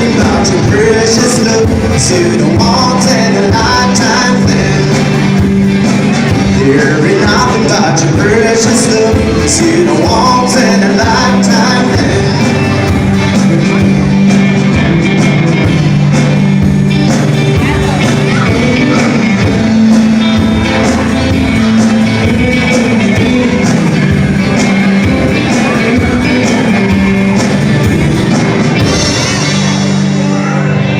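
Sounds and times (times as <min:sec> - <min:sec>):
guitar: 0:00.0 - 0:30.9
held low notes: 0:00.0 - 0:30.9
steady drum beat: 0:00.0 - 0:30.9.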